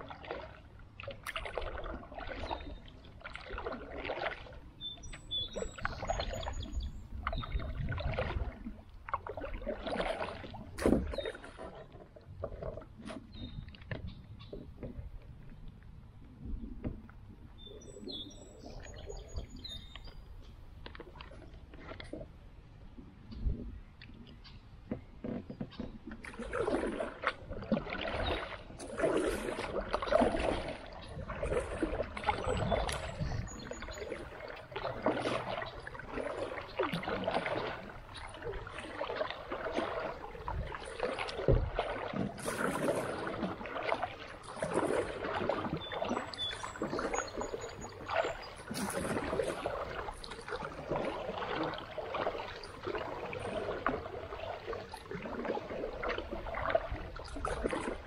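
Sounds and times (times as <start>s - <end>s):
creek water splashing: 0.0s - 15.7s, 16.8s - 22.9s, 23.8s - 58.0s.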